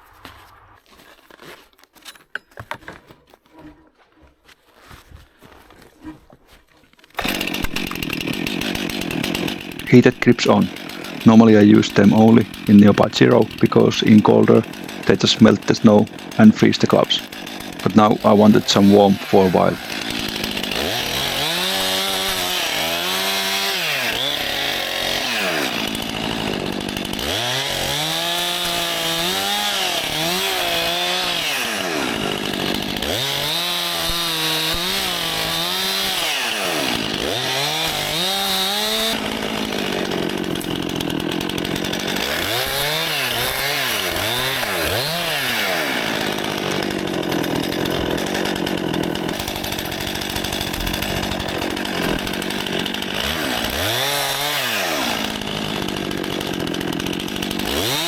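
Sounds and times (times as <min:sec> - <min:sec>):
chainsaw revving: 0:07.2 - 0:58.0.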